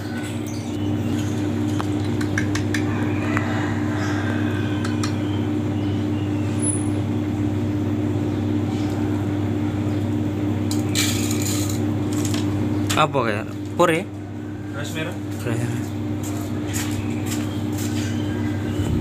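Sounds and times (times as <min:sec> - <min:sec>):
engine-like hum: 0:00.0 - 0:19.0.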